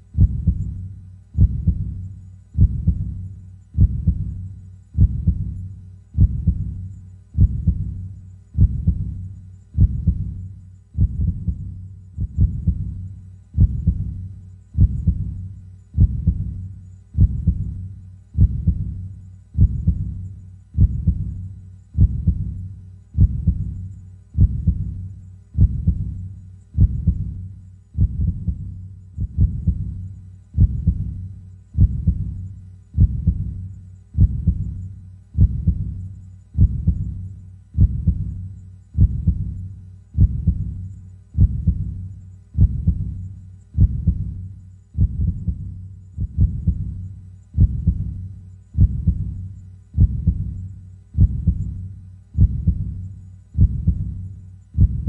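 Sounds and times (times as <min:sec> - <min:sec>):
heartbeat thuds: 0:00.1 - 0:55.0.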